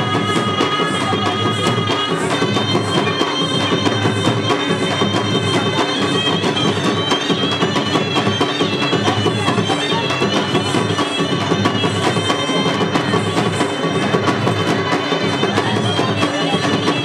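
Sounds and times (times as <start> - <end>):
drums beating fast rhythm: 0.0 - 17.0
wavering wind instrument melody: 0.0 - 17.0.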